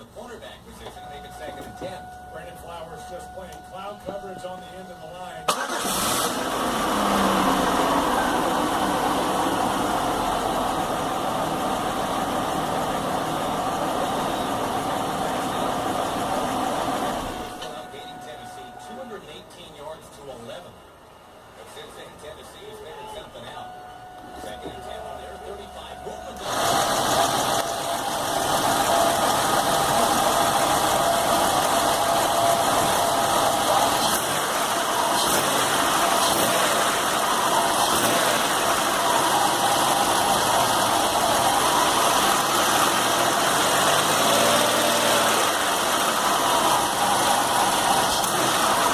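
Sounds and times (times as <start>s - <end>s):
car engine idling roughly: 0.0s - 19.0s, 24.4s - 48.9s.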